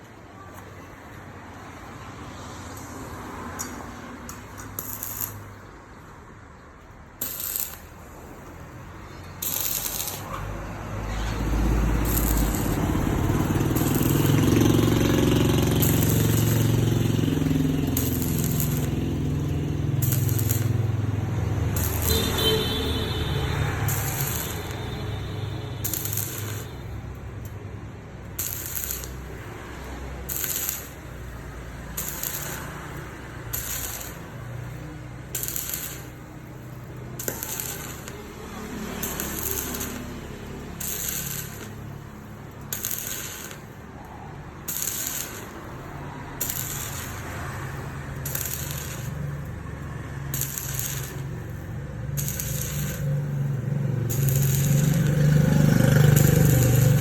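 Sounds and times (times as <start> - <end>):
welding crackling and hissing: 2.6 - 5.8, 6.8 - 57.0.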